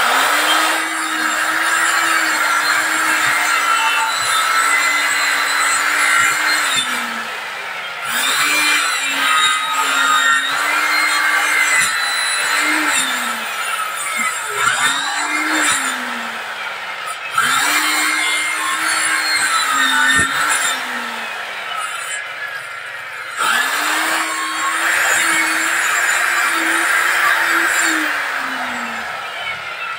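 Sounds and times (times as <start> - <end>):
circular saw cutting wood: 0.0 - 29.9.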